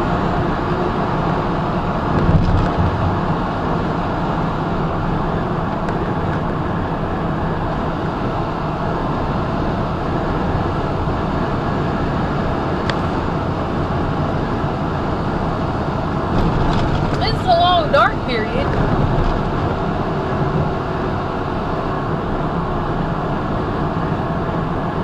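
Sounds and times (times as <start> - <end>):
truck diesel engine droning: 0.0 - 25.0
tyres at highway speed: 0.0 - 25.0.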